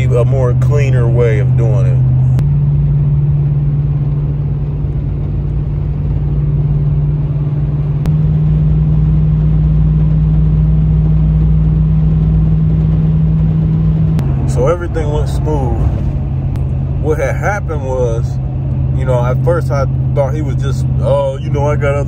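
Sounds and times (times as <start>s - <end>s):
engine and tyre drone: 0.0s - 22.0s.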